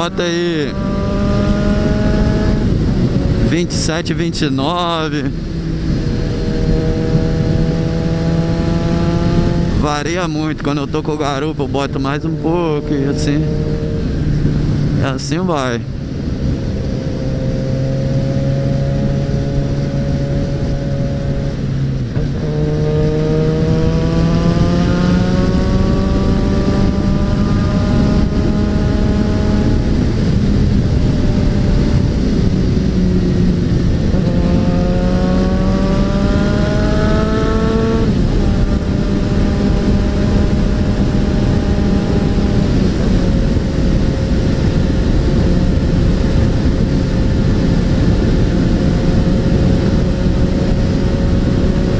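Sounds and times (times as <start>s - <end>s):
motorcycle engine revving: 0.0s - 4.0s, 4.6s - 15.2s, 15.8s - 51.9s
wind rushing over microphone: 0.0s - 51.9s.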